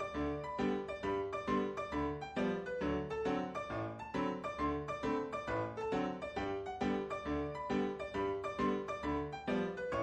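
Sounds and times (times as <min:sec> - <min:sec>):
light piano tune: 0:00.0 - 0:10.0.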